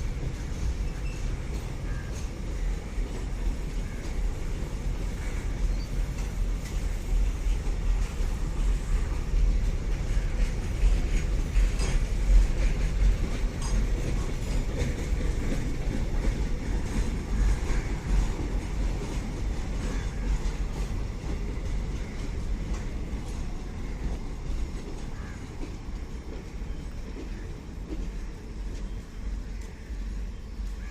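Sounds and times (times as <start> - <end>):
rail-joint clatter: 0.0 - 30.9
train coaches rumbling past: 0.0 - 30.9.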